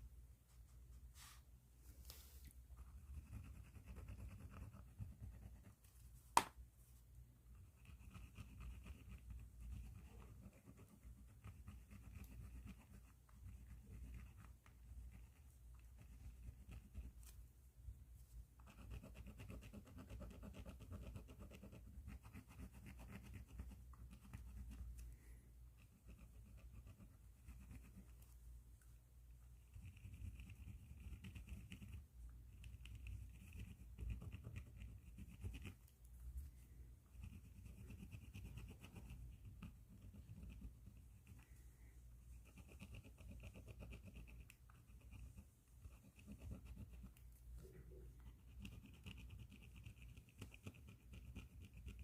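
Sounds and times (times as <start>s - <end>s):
pen scratching on paper: 2.8s - 5.9s, 7.5s - 17.3s, 18.6s - 25.0s, 25.7s - 28.2s, 29.6s - 35.9s, 37.1s - 41.4s, 42.3s - 52.0s.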